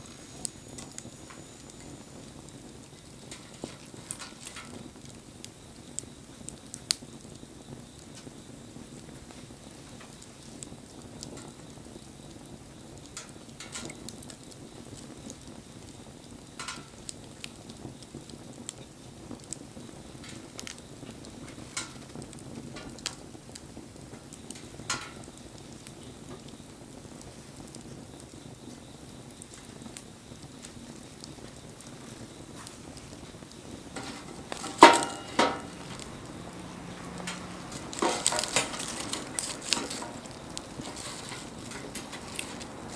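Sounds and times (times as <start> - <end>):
wood crackling and popping: 0.0 - 42.9
wood fire burning: 0.0 - 42.9.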